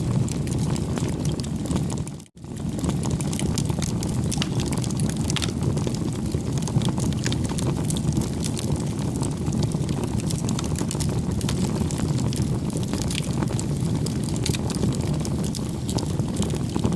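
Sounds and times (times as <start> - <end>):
bonfire burning rumble: 0.0 - 16.9
wood popping and crackling: 0.0 - 16.9.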